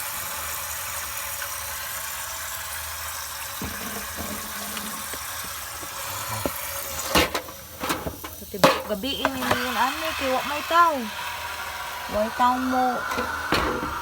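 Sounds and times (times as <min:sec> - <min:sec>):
water spraying from burst pipe: 0:00.0 - 0:14.0.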